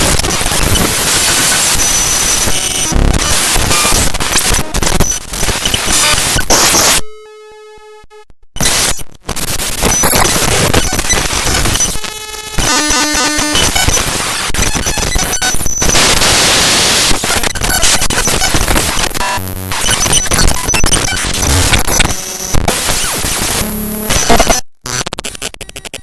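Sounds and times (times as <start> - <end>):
harsh static: 0.0 - 7.0, 8.6 - 26.0.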